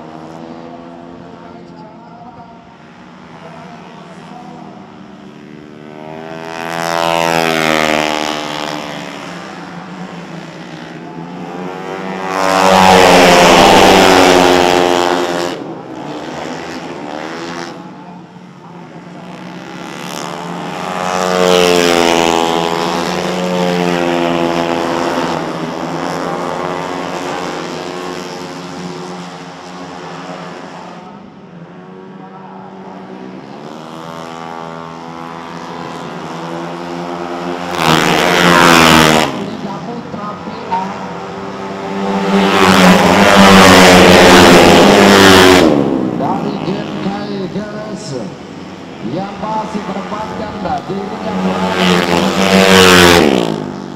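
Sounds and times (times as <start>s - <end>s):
scooters passing at high revs: 0.0s - 53.9s.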